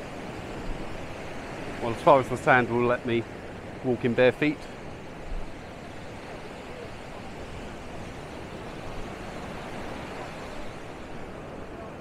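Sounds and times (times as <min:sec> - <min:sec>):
surf breaking on sandy beach: 0:00.0 - 0:12.0.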